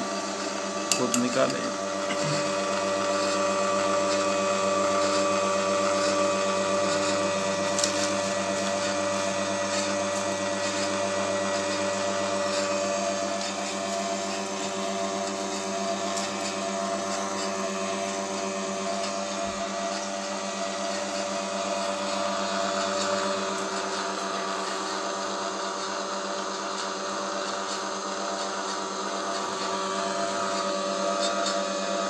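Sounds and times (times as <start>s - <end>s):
oil press motor and gear hum: 0.0s - 32.0s.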